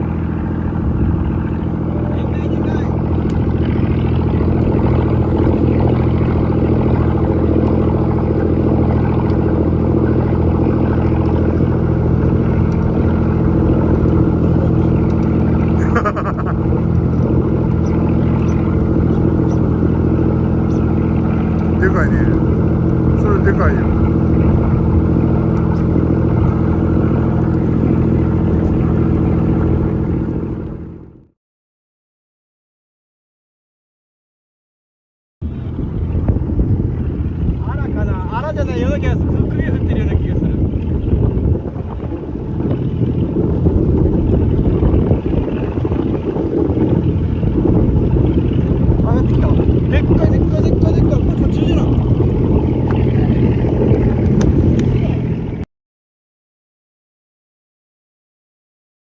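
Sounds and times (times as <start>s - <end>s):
boat engine running steadily: 0.0s - 31.4s, 35.4s - 55.7s.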